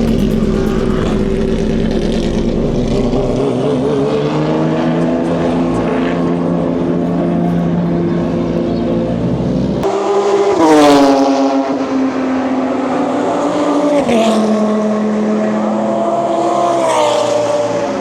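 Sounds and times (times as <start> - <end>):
race car engines passing: 0.0 - 18.0.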